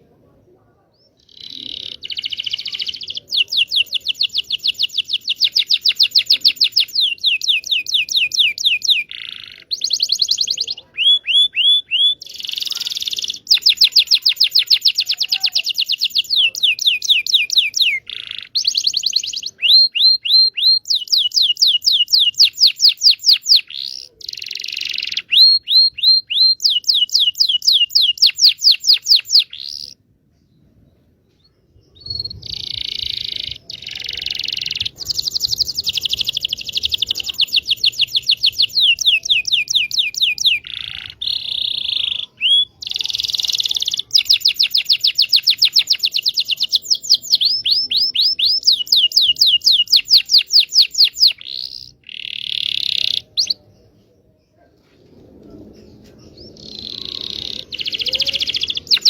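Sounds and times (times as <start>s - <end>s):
canary singing: 1.1s - 30.0s, 32.0s - 54.0s, 56.2s - 59.0s.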